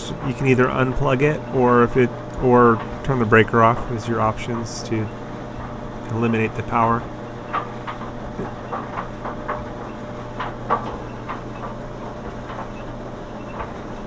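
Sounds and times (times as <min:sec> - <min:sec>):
dryer drum squeaking: 0:00.0 - 0:14.0
dryer humming: 0:00.0 - 0:14.0.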